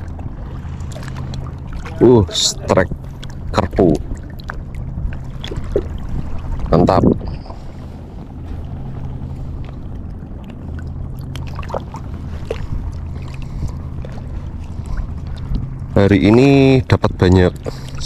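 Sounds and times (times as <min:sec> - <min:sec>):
wind noise: 0:00.0 - 0:10.2, 0:11.5 - 0:18.0
boat engine humming: 0:00.0 - 0:18.0.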